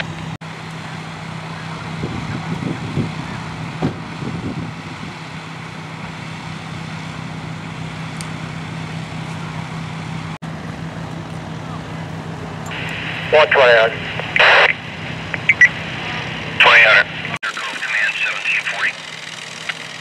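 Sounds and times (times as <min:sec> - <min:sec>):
fire truck engine running: 0:00.0 - 0:20.0.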